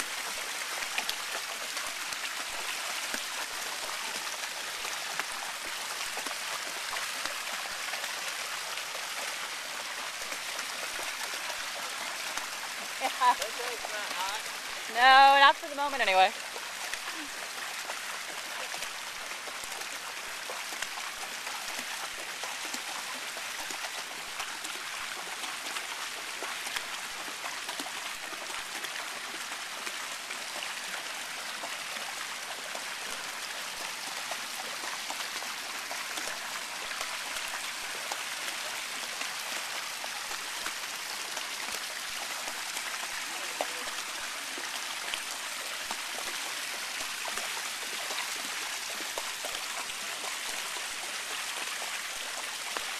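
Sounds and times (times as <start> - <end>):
water pouring into a pool: 0.0 - 52.9.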